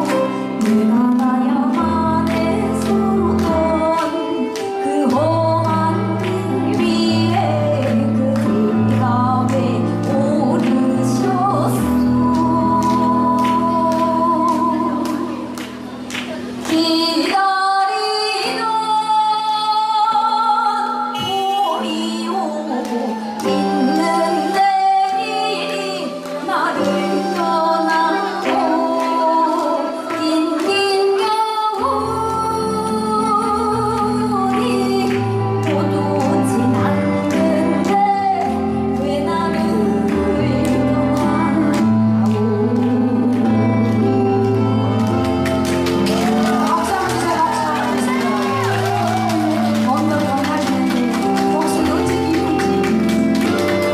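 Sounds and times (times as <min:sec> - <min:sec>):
instrumental accompaniment: 0:00.0 - 0:53.9
woman singing into microphone: 0:00.0 - 0:53.9.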